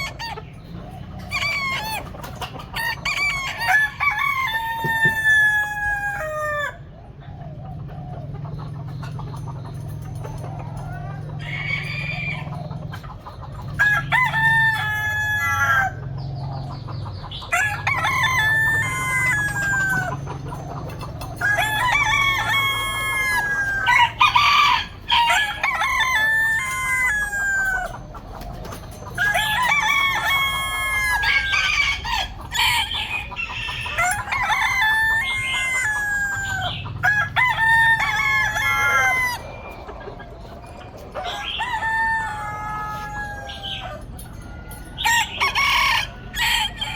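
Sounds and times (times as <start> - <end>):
roosters crowing: 0.0 - 46.9.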